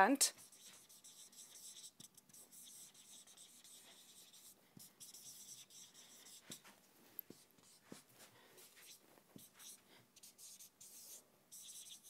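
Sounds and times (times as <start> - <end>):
marker pen squeaking on whiteboard: 0.3 - 6.7, 8.6 - 12.0.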